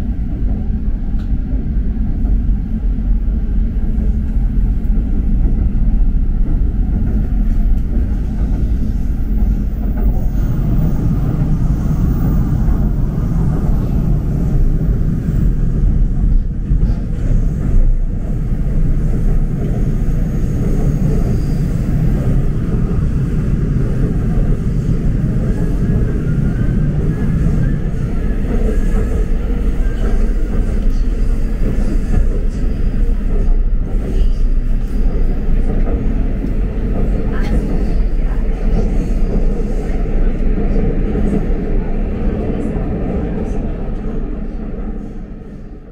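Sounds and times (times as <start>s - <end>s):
subway train rumbling: 0.0s - 45.9s.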